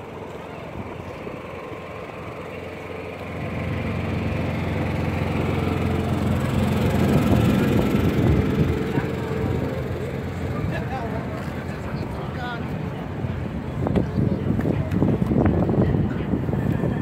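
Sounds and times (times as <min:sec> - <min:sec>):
engine hum: 0:00.0 - 0:17.0.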